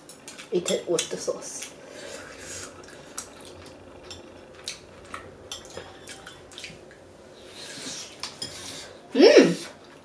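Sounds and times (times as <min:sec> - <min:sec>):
soft eating noise: 0:00.0 - 0:10.0.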